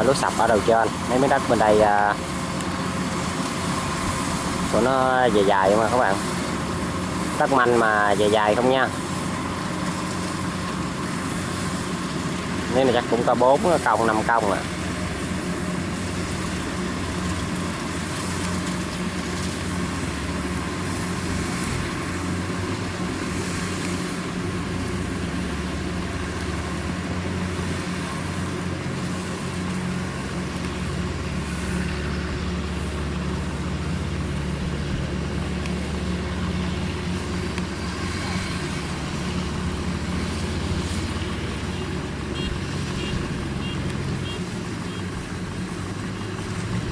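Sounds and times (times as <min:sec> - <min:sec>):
combine harvester engine running: 0:00.0 - 0:46.9.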